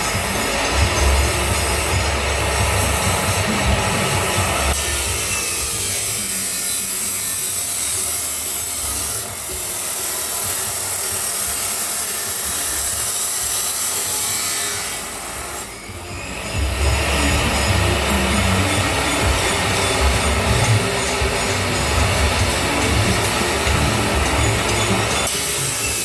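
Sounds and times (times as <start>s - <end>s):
angle grinder cutting steel pipe: 0.0s - 26.0s.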